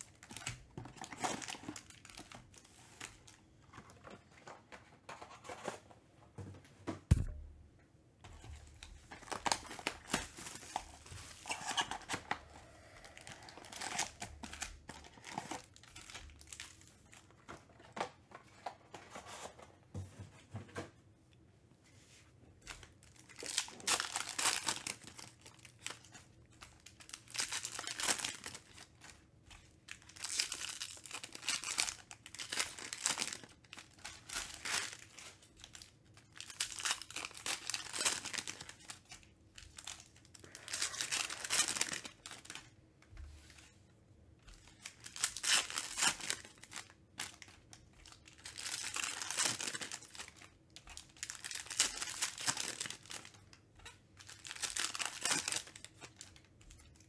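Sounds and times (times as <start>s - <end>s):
foil wrappers crinkling and tearing: 0.0s - 4.6s, 8.6s - 19.0s, 22.7s - 42.8s, 44.5s - 57.0s.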